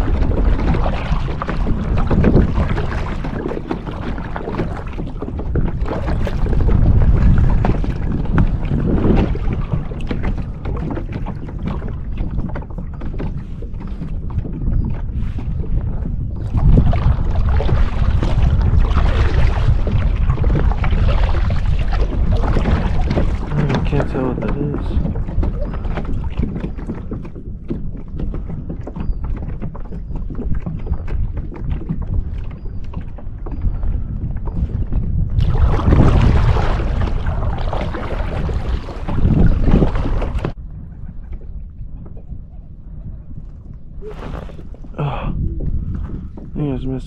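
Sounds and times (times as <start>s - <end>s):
water lapping against a kayak: 0.0s - 47.0s
waves slapping a hull: 0.0s - 47.0s
wind buffeting microphone: 0.0s - 47.0s.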